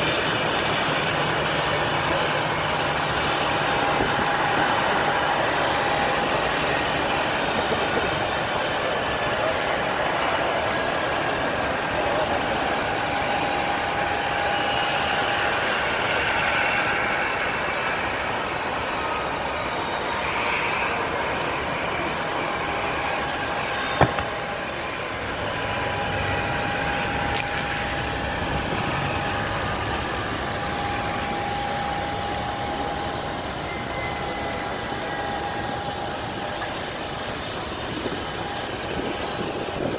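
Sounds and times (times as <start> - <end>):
jet engines idling: 0.0 - 39.9.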